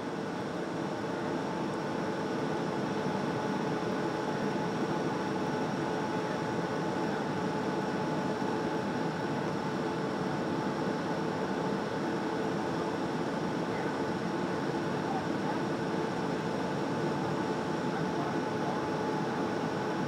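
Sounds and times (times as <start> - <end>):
jet engine roar inside cabin: 0.0 - 20.0.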